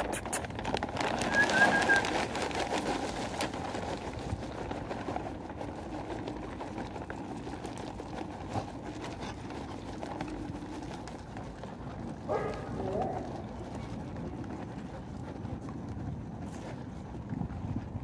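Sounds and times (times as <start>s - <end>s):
dogs eating on concrete: 0.0s - 18.0s.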